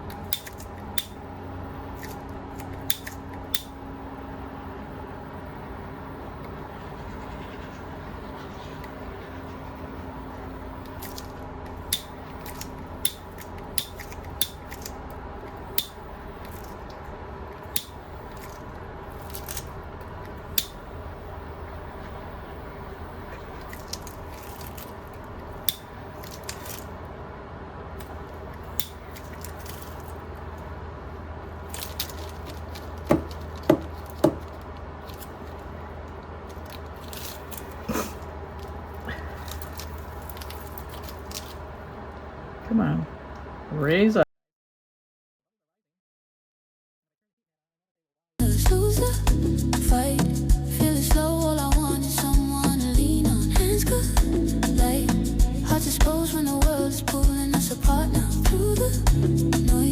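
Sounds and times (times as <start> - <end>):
steady low hum: 0.0 - 44.2, 48.4 - 59.9.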